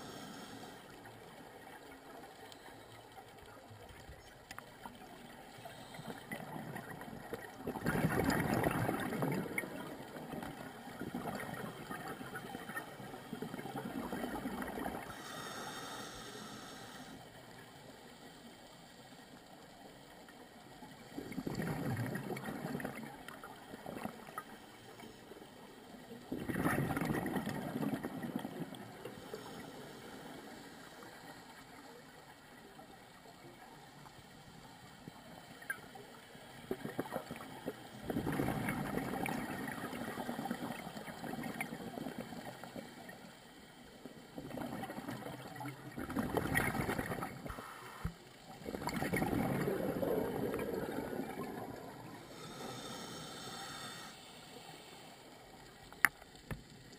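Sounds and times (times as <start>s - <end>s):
faint hiss: 0.0s - 26.5s, 27.6s - 46.0s, 46.6s - 56.9s
underwater exhaust bubbles: 0.0s - 56.9s.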